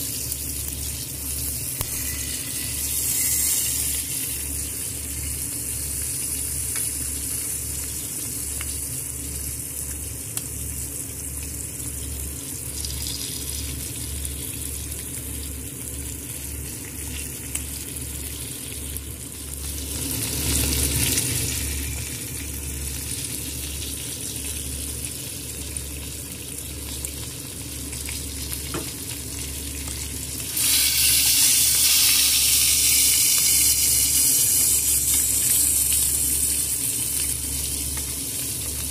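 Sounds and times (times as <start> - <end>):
steak sizzling in a pan: 0.0 - 38.9.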